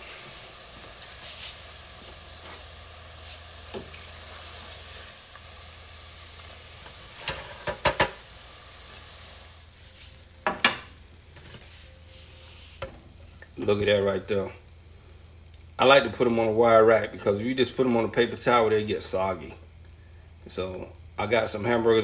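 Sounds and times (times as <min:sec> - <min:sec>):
oil sizzling: 0:00.0 - 0:22.0.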